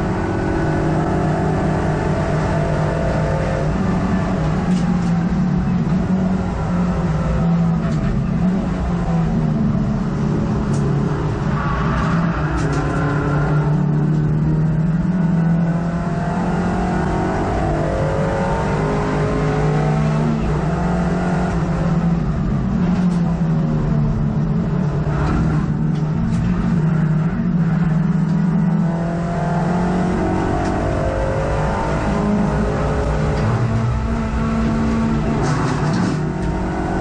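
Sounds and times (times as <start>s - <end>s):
race car engine from inside cabin: 0.0s - 37.0s.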